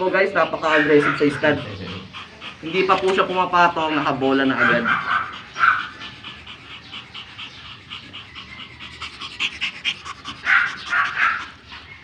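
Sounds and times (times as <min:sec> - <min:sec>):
dog panting quickly: 0:00.0 - 0:12.0.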